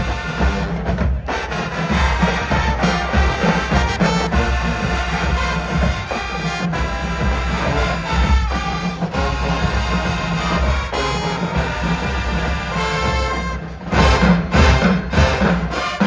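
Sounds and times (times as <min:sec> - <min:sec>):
drums: 0:00.0 - 0:16.0
trumpets and trombones: 0:00.0 - 0:16.0
tubas: 0:00.0 - 0:16.0.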